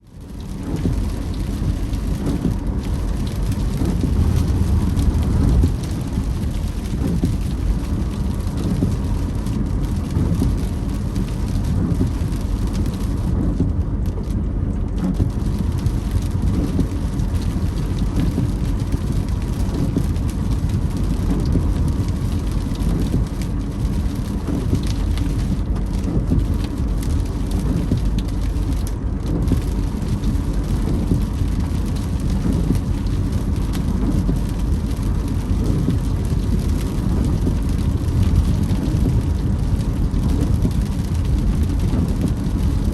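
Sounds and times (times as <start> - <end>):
rain hitting windscreen: 0.0 - 42.9
road and engine rumble: 0.0 - 42.9
windscreen wipers creaking: 0.2 - 42.9.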